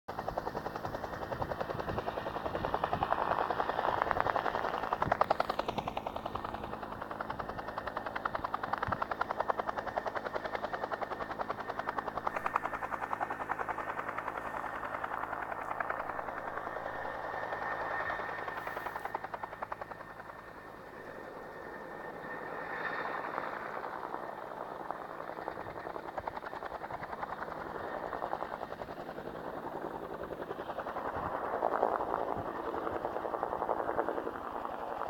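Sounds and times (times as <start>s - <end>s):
helicopter rotor blades beating: 0.1s - 35.0s.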